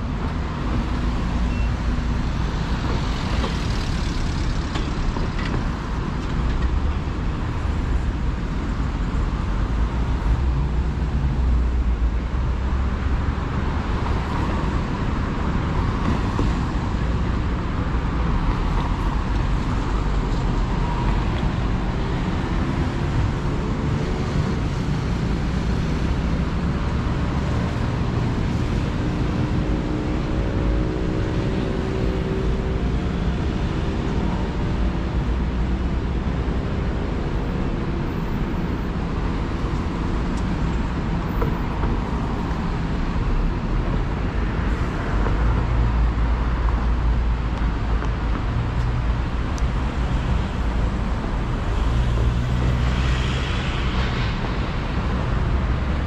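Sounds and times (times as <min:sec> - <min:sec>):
cars going by: 0:00.0 - 0:56.0.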